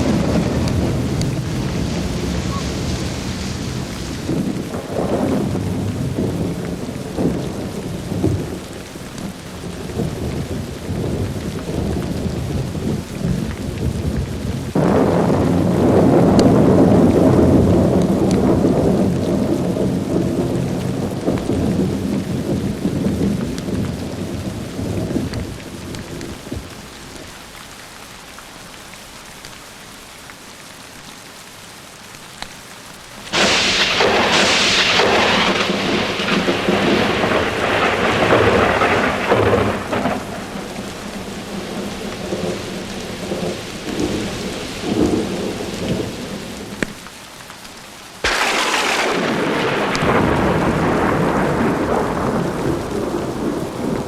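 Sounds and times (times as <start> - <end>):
sharp thunderclap: 0.0 - 8.6, 9.6 - 26.7, 33.3 - 46.9, 48.2 - 54.0
thunder rumbling: 0.0 - 27.2, 33.3 - 47.1, 48.2 - 54.0
steady rain hiss: 0.0 - 54.0.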